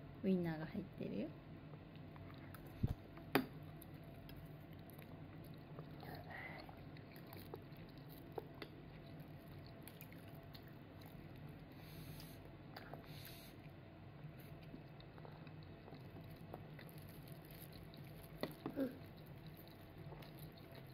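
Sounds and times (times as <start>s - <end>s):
faint chewing: 1.7s - 20.9s.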